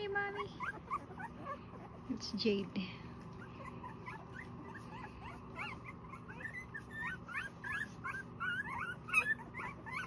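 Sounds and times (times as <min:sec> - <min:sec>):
puppies whimpering and squealing: 0:00.0 - 0:10.0.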